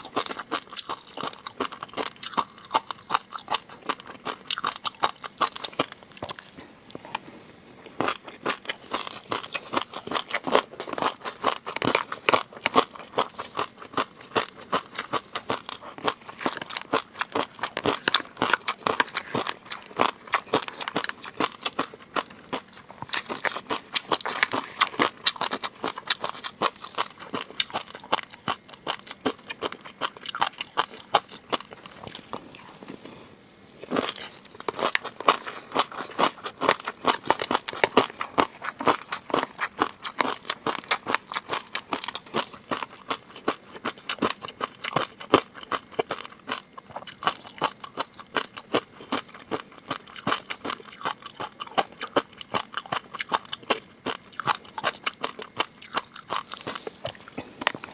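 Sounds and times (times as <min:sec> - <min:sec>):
crunching and chewing food: 0:00.0 - 0:57.9.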